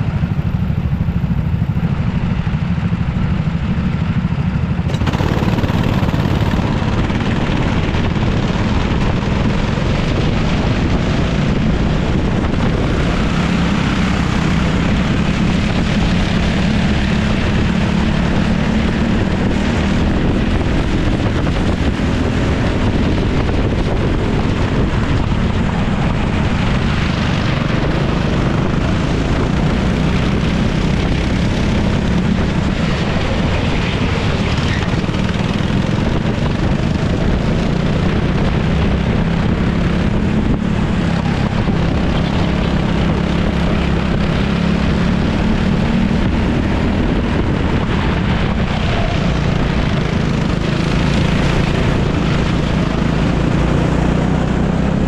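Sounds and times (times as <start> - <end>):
go-kart engines running hard: 0.0 - 55.0.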